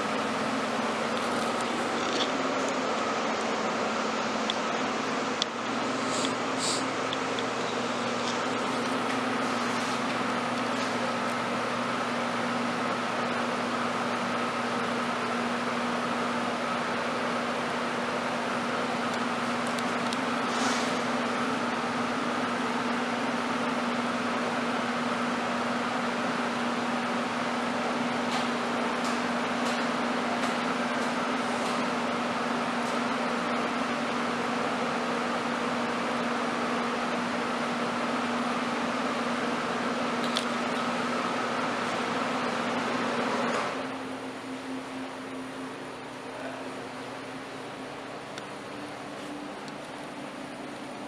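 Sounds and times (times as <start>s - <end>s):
mechanical hum with hiss: 0.0s - 51.0s.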